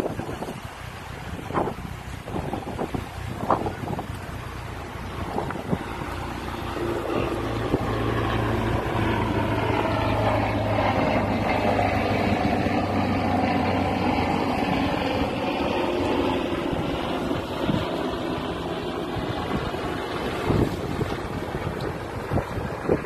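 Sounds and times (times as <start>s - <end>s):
motorboat engine running: 0.0s - 23.0s
sea waves: 0.0s - 23.0s
wind: 0.0s - 23.0s.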